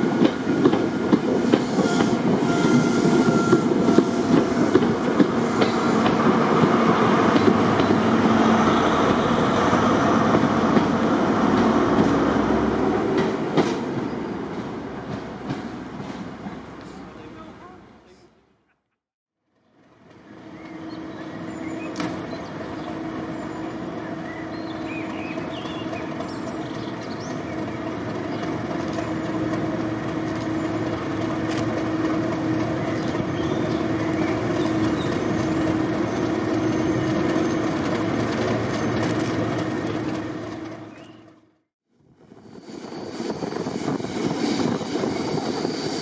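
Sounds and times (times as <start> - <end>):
diesel locomotive engine droning: 0.0 - 18.0, 19.9 - 46.0.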